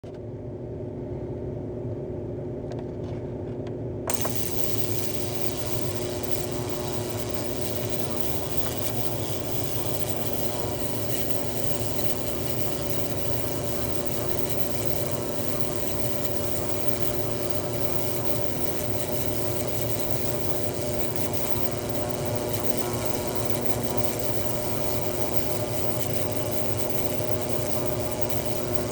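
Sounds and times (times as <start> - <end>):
harsh hissy buzz: 4.1 - 28.9
ultrasonic cleaner humming: 4.1 - 28.9.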